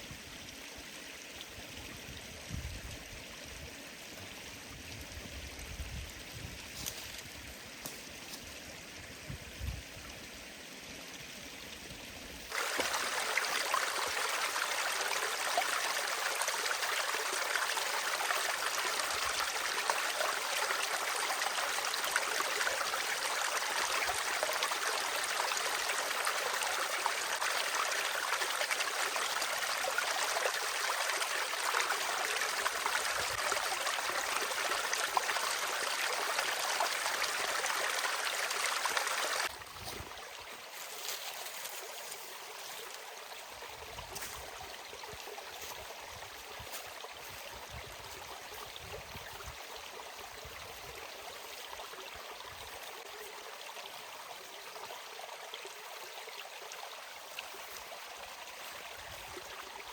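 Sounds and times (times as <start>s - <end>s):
forest stream running: 0.0s - 59.9s.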